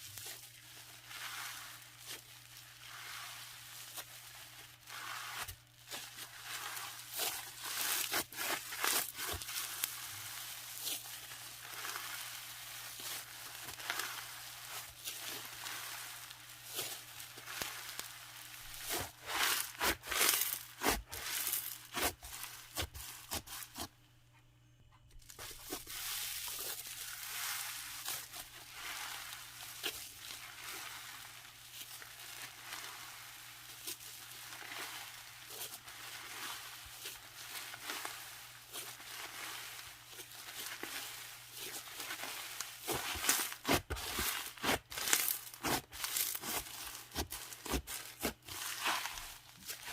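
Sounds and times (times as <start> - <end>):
slime crackling and crunching by hand: 0.0 - 23.9, 25.2 - 49.9.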